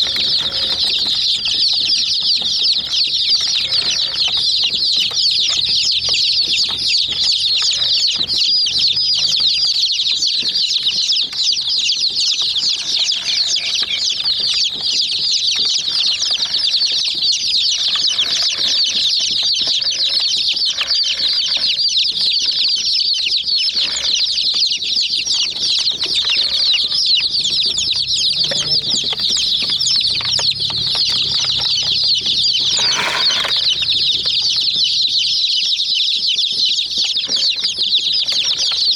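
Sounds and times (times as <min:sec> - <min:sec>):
chicks cheeping: 0:00.0 - 0:38.9.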